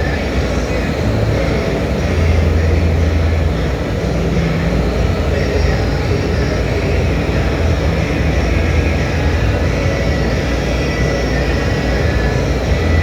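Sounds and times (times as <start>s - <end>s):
industrial furnace machine noise: 0.0s - 13.0s.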